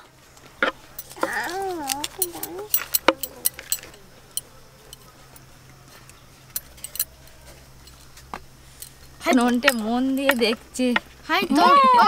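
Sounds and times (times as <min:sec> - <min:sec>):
bangles clinking: 0:00.8 - 0:11.0.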